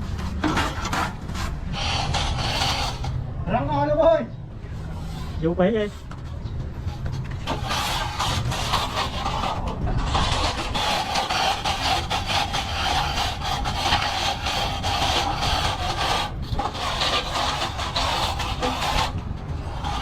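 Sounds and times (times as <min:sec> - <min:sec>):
plastering tool scraping a wall: 0:00.0 - 0:03.3, 0:04.7 - 0:20.0.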